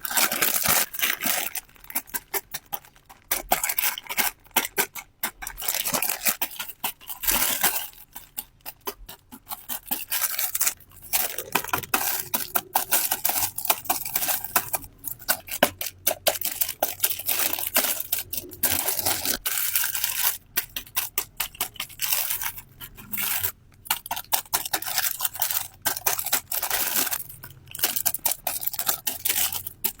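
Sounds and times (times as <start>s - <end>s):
packaging crinkling and tearing: 0.0s - 30.0s.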